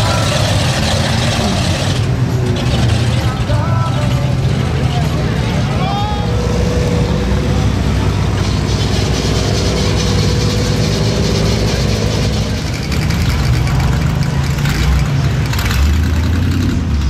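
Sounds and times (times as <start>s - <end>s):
vehicle engines humming: 0.0s - 17.0s.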